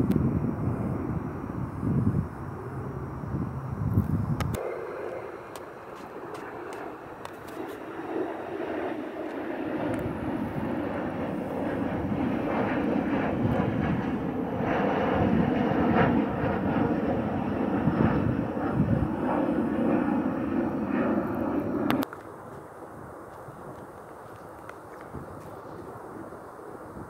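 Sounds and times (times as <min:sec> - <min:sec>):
faint steady hum: 0:00.0 - 0:27.0
jet engines at takeoff: 0:00.0 - 0:27.0.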